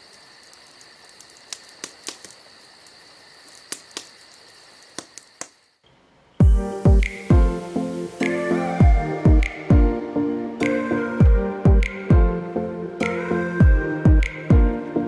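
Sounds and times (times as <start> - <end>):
insects chirring: 0.0 - 14.1.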